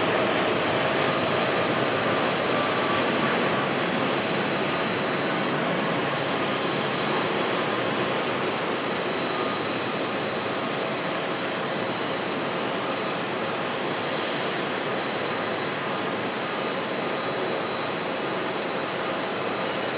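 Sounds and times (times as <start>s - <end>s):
faint high engine whine: 0.0s - 19.9s
jet engines roaring at takeoff: 0.0s - 19.9s.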